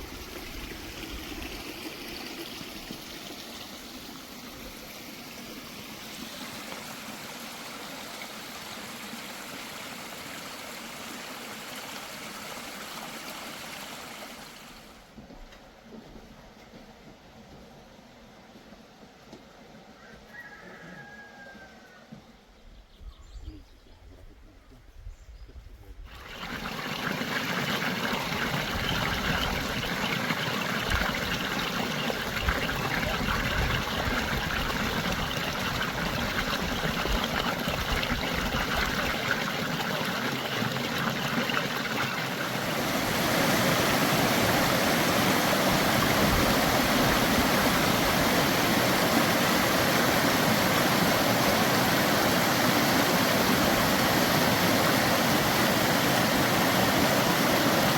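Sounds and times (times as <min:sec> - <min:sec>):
stream water running: 0:00.0 - 0:15.2, 0:26.1 - 0:57.9.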